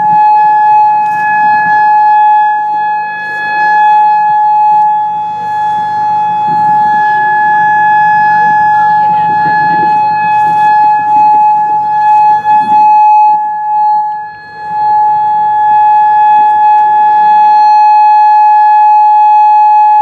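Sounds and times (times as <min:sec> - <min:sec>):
warning siren steady tone: 0:00.0 - 0:20.0.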